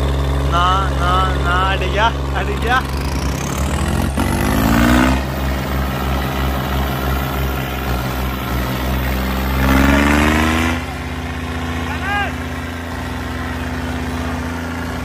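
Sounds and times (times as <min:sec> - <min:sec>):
tractor engine straining: 0:00.0 - 0:15.0.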